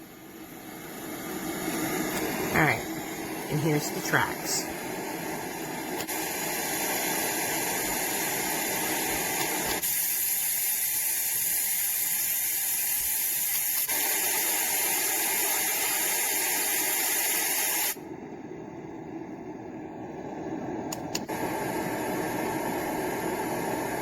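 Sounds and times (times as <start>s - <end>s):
steady hiss from speaker: 0.0s - 24.0s.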